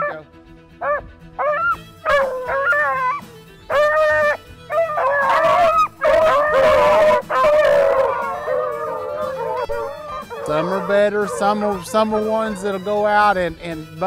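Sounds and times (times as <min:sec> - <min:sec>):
dogs baying and howling: 0:00.0 - 0:00.2, 0:00.8 - 0:12.8
dogs yelping: 0:00.0 - 0:00.2, 0:00.8 - 0:12.8.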